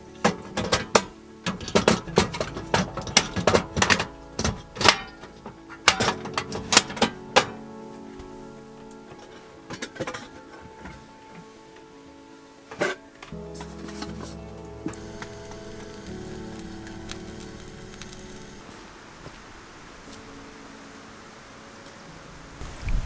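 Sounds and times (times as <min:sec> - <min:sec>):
background music with steady tones: 0:00.0 - 0:23.0.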